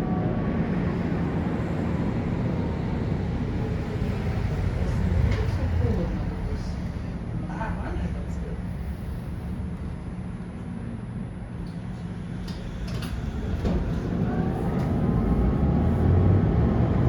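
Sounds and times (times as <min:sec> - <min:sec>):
tram motor whine: 0:00.0 - 0:17.0
tram wheels rumbling on rails: 0:00.0 - 0:17.0.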